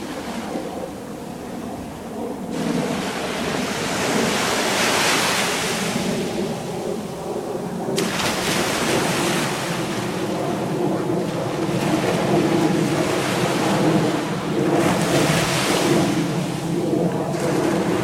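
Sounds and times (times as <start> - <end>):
ocean waves breaking: 0.0 - 18.0
wind on microphone: 0.0 - 18.0.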